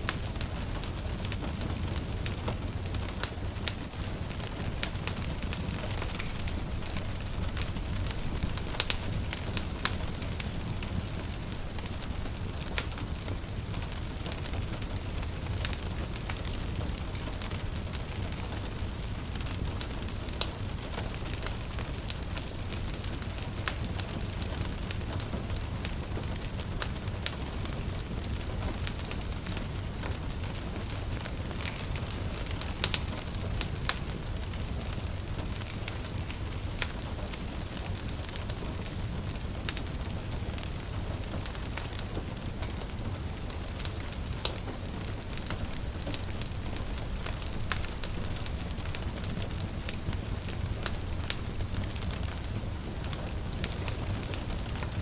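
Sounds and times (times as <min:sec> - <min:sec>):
gentle rain pattering: 0:00.0 - 0:55.0
wood fire crackling: 0:00.0 - 0:55.0.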